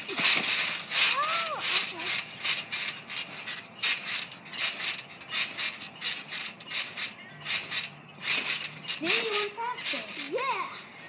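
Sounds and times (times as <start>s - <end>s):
trampoline springs creaking: 0.0s - 11.0s.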